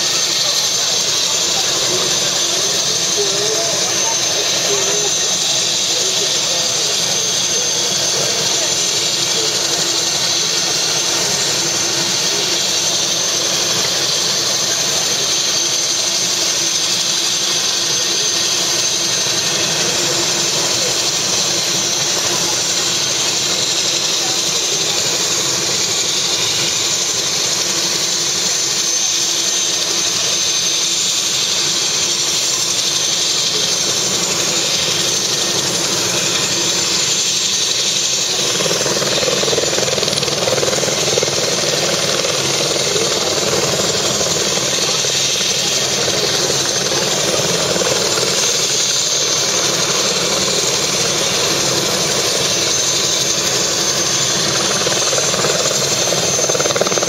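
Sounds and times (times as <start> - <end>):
helicopter engine whine: 0.0 - 57.0.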